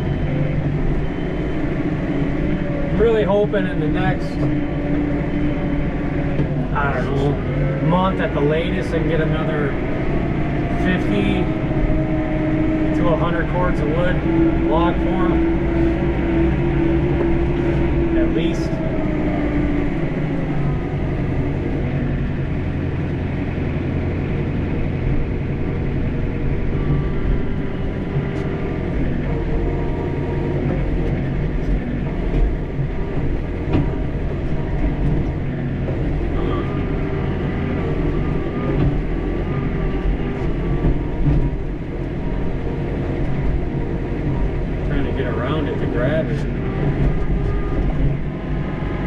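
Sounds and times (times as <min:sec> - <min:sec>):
hydraulic whine: 0:00.0 - 0:49.0
tractor diesel engine running: 0:00.0 - 0:49.0.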